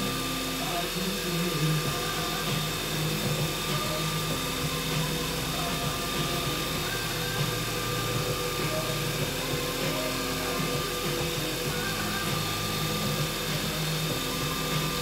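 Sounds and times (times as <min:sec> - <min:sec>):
sandpaper on spinning wood: 0:00.0 - 0:15.0
wood lathe motor running: 0:00.0 - 0:15.0.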